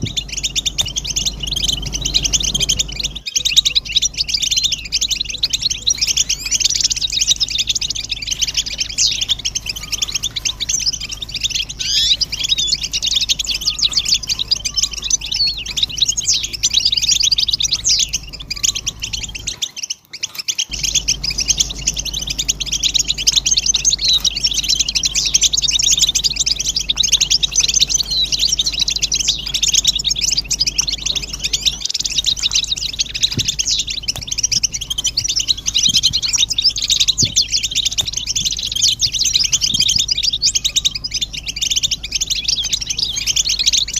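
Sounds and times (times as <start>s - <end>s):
finches twittering: 0.0s - 43.9s.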